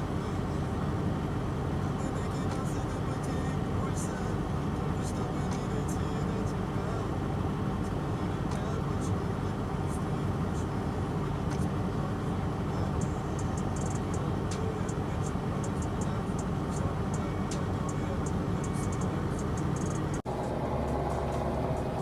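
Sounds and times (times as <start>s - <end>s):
heavy machine engine running: 0.0s - 22.0s.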